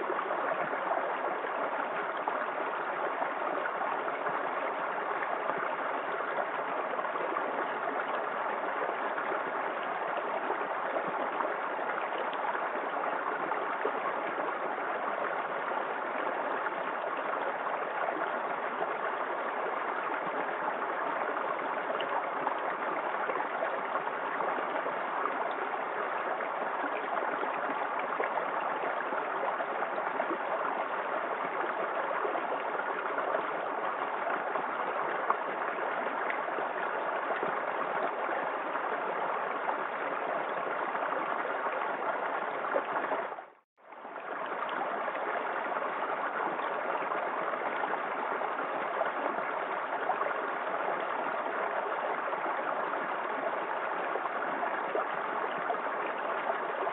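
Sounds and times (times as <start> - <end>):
small waterfall rushing: 0.0 - 56.9.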